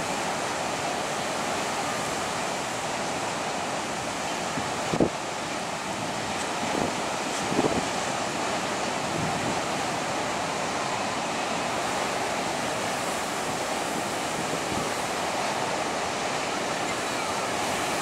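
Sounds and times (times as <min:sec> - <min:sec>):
heavy surf breaking: 0:00.0 - 0:18.0
wind blowing across microphone: 0:00.0 - 0:18.0.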